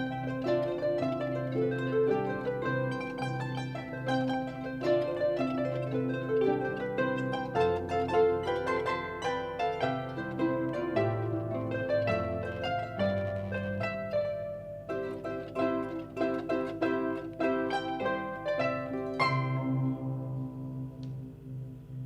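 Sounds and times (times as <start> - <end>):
harp music: 0.0 - 22.0.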